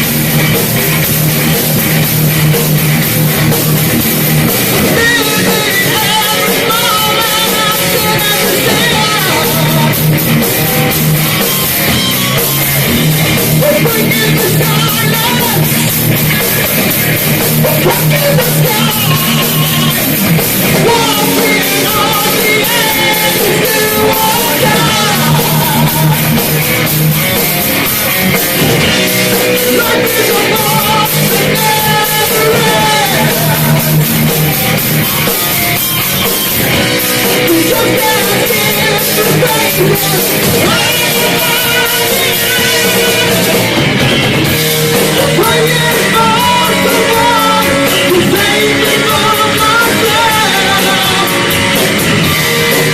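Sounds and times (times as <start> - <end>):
bass guitar: 0.0 - 52.9
distorted electric guitars: 0.0 - 52.9
drum kit: 0.0 - 52.9
person singing: 4.5 - 26.8, 28.3 - 35.9, 37.1 - 44.0, 44.8 - 52.9.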